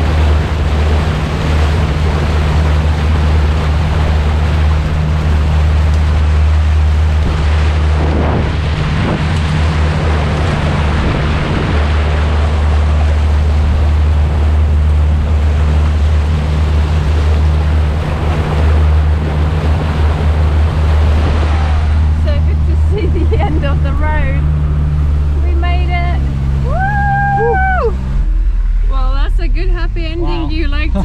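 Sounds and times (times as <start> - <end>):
engine droning: 0.0 - 31.0
water rushing and splashing: 0.0 - 31.0.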